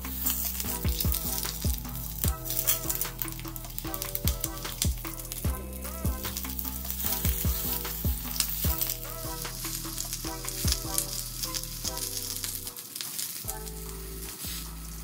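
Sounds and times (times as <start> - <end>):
background music with beat: 0.0 - 15.0
peppers sizzling in hot oil: 0.0 - 15.0.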